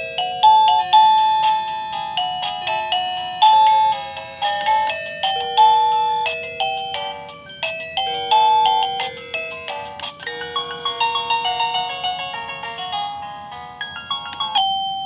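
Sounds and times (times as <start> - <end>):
doorbell electronic melody: 0.0 - 15.0.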